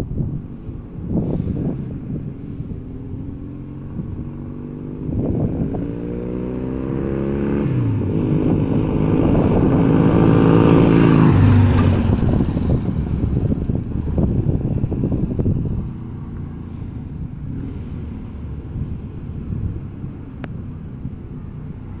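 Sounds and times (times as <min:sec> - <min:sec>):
wind rumble on microphone: 0:00.0 - 0:22.0
motorcycle engine accelerating past: 0:01.1 - 0:22.0.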